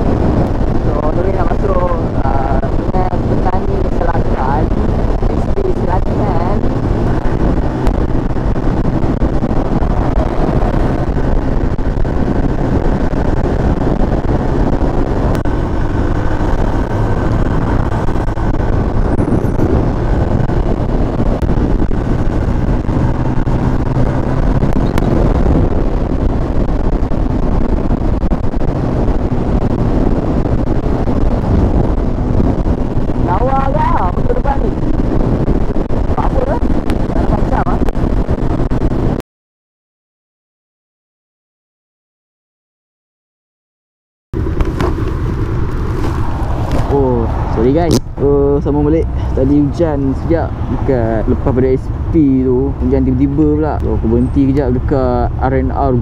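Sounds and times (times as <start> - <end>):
motorcycle engine cruising: 0.0 - 39.2, 44.4 - 56.0
wind rushing over microphone: 0.0 - 39.2, 44.4 - 56.0.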